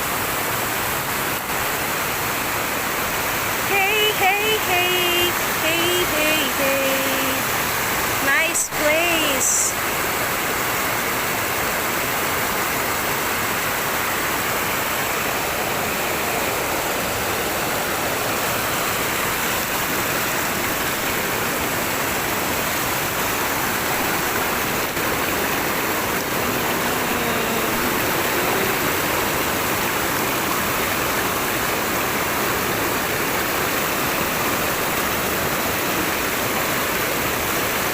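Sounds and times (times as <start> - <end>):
mountain stream rushing: 0.0 - 37.9.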